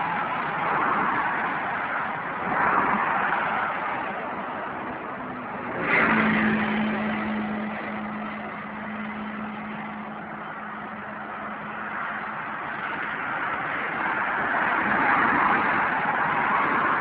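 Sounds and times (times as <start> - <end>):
motorway traffic rush: 0.0 - 17.0
vehicle passing: 2.5 - 17.0.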